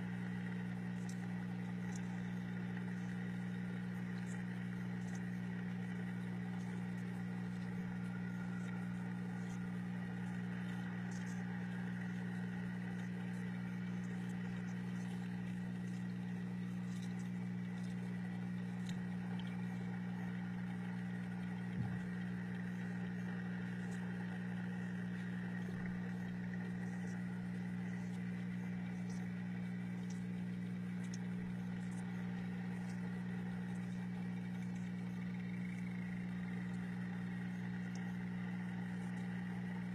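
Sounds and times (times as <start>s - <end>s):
electric pump humming: 0.0s - 39.9s
faint ticks: 0.1s - 39.9s.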